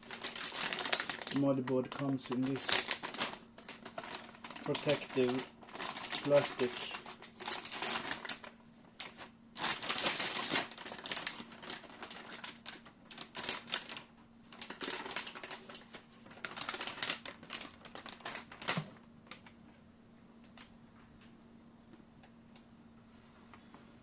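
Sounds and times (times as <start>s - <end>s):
plastic packaging crinkling: 0.0s - 19.6s.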